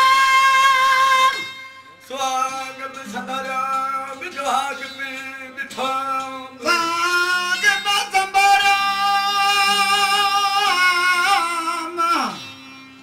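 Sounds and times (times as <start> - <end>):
plucked lute drone: 0.0 - 13.0.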